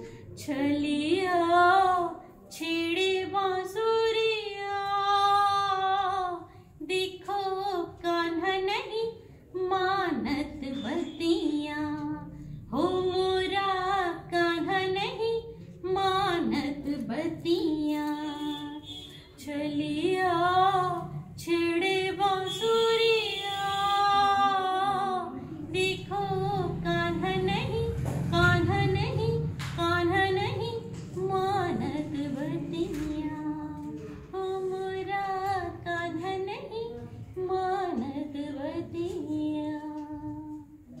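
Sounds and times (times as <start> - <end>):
woman singing devotional song: 0.0 - 41.0.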